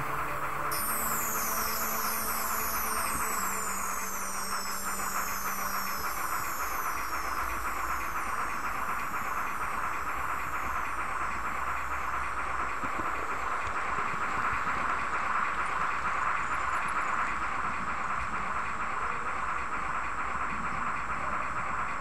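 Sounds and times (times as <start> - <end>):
model train hissing running noise: 0.0 - 22.0.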